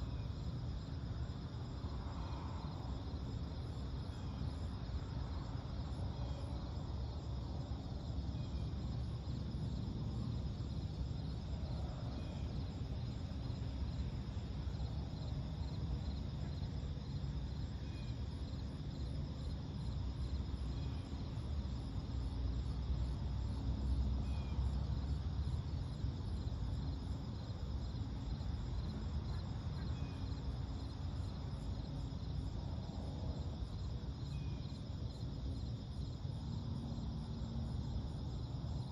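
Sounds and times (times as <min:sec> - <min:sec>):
crickets and insects trilling: 0:00.0 - 0:38.9
low steady rumble: 0:00.0 - 0:38.9.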